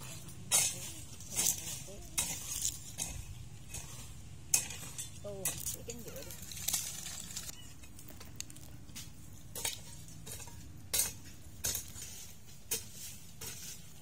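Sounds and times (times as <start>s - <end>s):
clicks and crackles of dry leaves: 0.0s - 14.0s.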